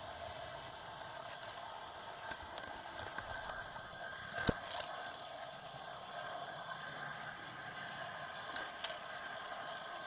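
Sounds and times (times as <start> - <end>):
model train rolling rattle: 0.0 - 10.0.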